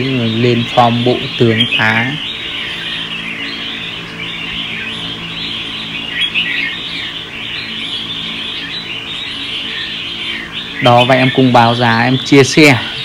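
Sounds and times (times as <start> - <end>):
birds chirping and chattering: 0.0 - 13.0.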